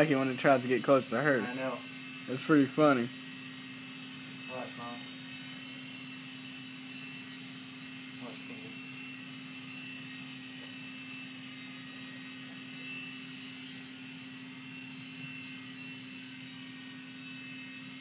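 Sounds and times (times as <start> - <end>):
toy helicopter whirring: 0.0 - 18.0.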